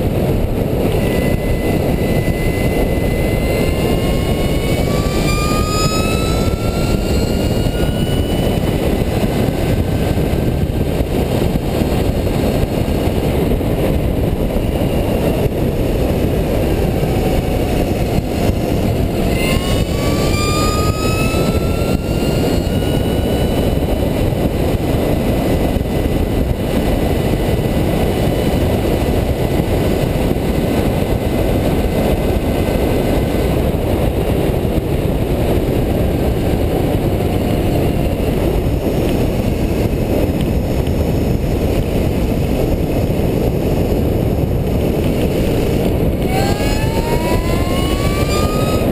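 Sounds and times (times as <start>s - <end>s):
electric motor whine: 0.0s - 48.9s
wind noise on microphone: 0.0s - 48.9s.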